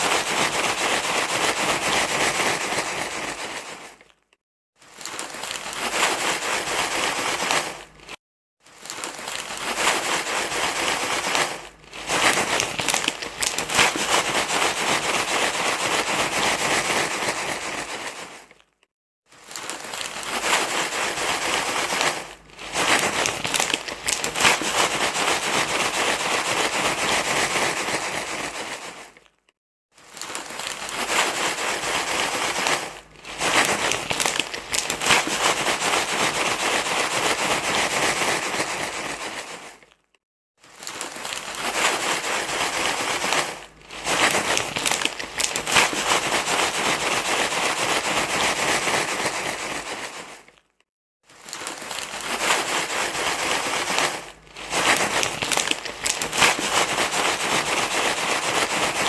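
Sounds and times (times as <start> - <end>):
crinkling crackling rustle: 0.0 - 59.0.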